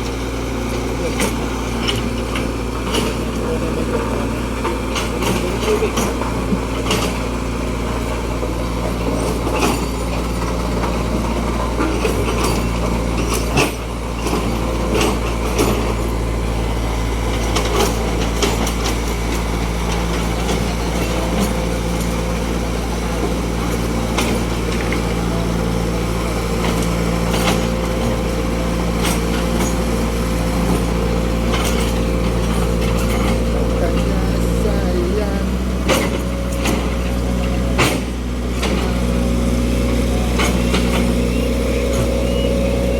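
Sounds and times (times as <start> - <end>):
heavy vehicle engines running: 0.0 - 42.9.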